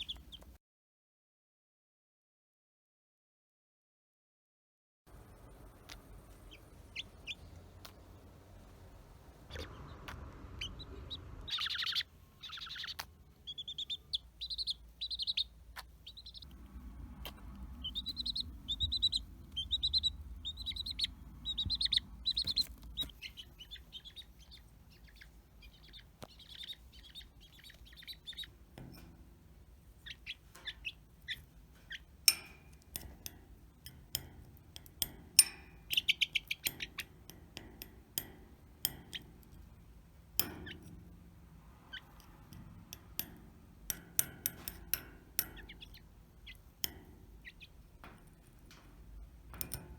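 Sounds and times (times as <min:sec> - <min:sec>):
chick peeping: 0:00.0 - 0:00.6, 0:05.6 - 0:29.3, 0:29.9 - 0:41.2, 0:41.8 - 0:48.6.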